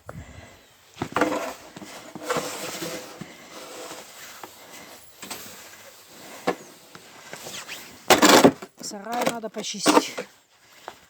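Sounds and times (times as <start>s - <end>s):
snow crunching and scraping: 0.8s - 11.0s.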